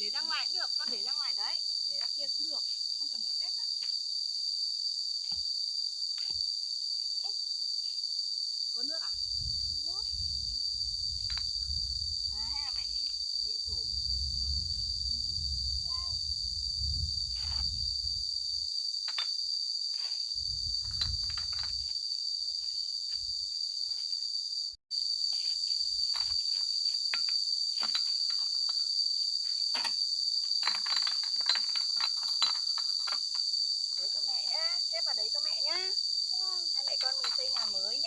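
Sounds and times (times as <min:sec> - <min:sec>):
high-pitched insect chorus: 0:00.0 - 0:38.0.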